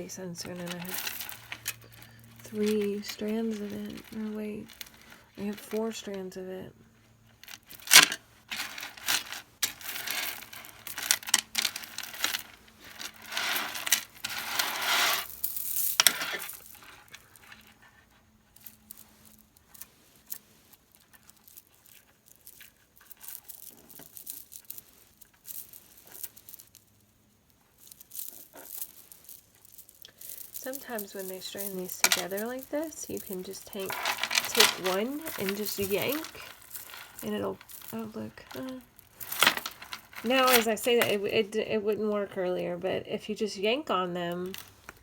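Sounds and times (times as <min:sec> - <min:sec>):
plastic packaging crinkling: 0:00.4 - 0:06.1, 0:07.3 - 0:17.8, 0:18.6 - 0:41.5, 0:44.4 - 0:45.0
stone beads clicking together: 0:00.4 - 0:06.3, 0:07.3 - 0:17.8, 0:18.6 - 0:27.0, 0:27.6 - 0:41.4.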